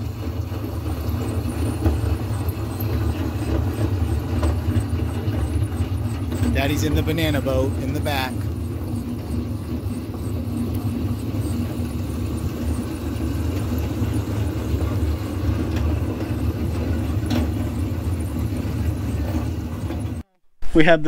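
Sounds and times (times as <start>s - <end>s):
rubber wheels rolling over concrete: 0.0s - 20.2s.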